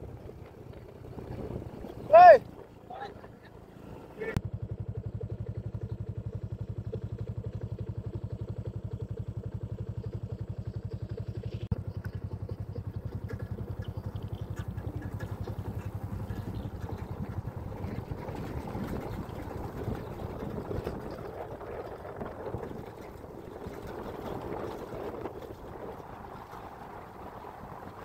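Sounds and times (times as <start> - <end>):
small motorcycle engine running: 0.0 - 28.0.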